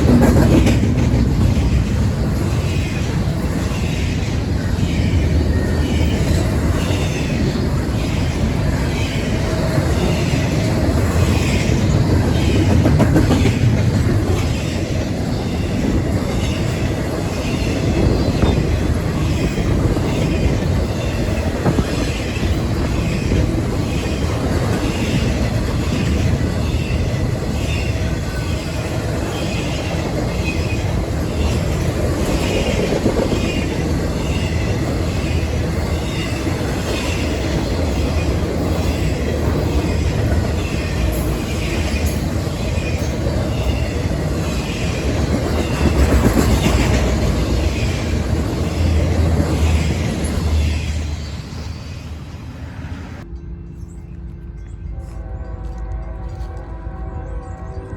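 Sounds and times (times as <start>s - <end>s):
wheels clickety-clack on rail joints: 0.0s - 57.0s
train rumbling past: 0.0s - 57.9s.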